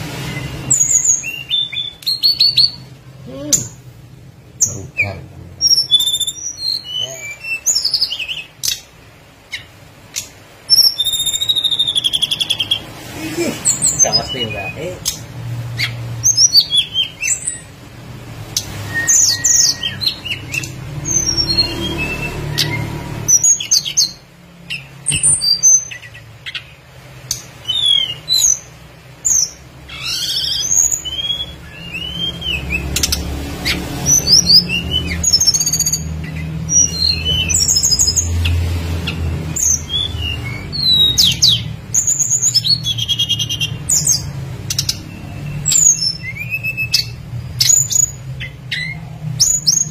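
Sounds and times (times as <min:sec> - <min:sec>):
bird chirping and whistling: 0:00.0 - 0:03.8, 0:04.6 - 0:08.9, 0:09.5 - 0:17.8, 0:18.4 - 0:49.9.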